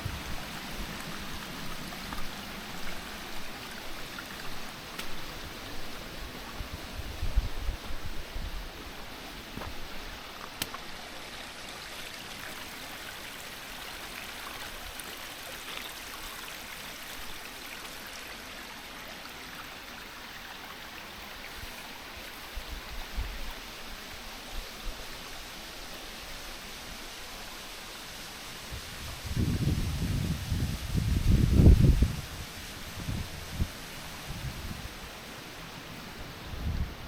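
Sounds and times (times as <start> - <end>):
small waterfall flowing: 0.0 - 37.0.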